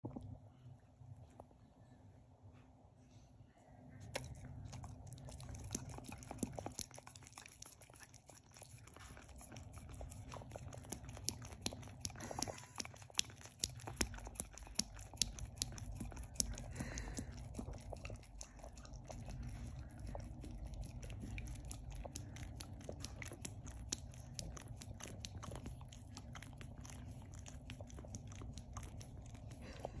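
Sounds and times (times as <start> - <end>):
dog licking and lip-smacking: 4.0 - 30.0.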